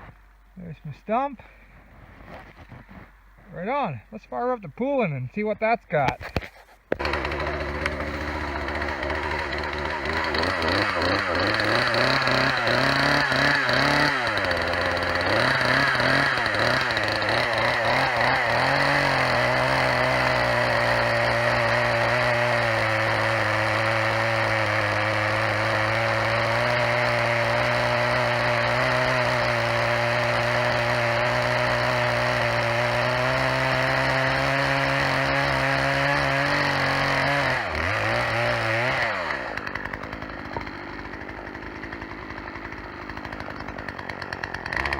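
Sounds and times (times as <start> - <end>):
chainsaw engine revving: 6.9 - 44.9.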